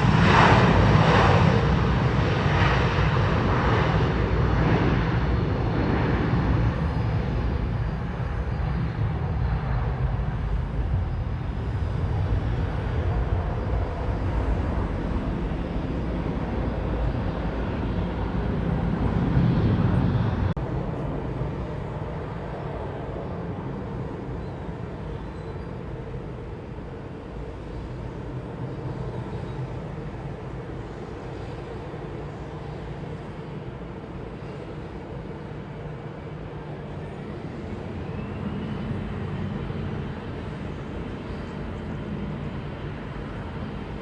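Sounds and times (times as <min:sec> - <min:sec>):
jet airliner engine noise: 0:00.0 - 0:44.0.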